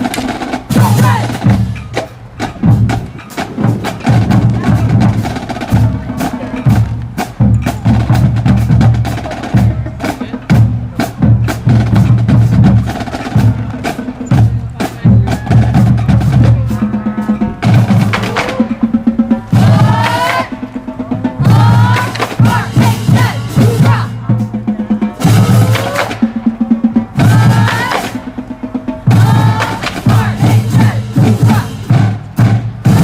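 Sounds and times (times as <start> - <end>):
drums and percussion hits: 0.0 - 33.0.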